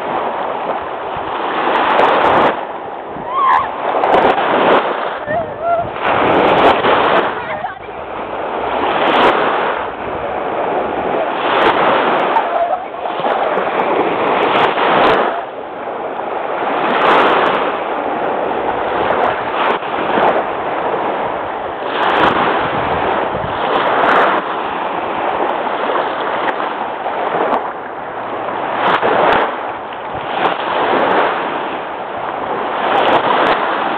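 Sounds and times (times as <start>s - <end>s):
waves washing in: 0.0s - 33.9s.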